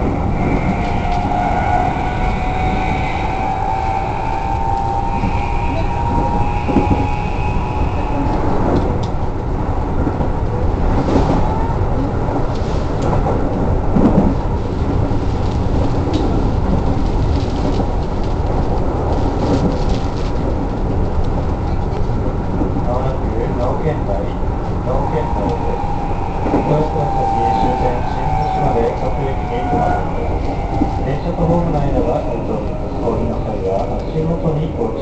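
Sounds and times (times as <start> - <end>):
high train whine: 0.0 - 35.0
train wheels rumbling on rail: 0.0 - 35.0.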